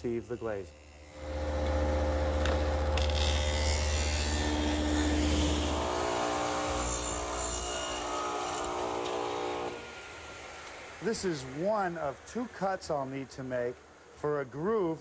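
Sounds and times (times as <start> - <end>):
power tool cutting wood: 0.0 - 12.6.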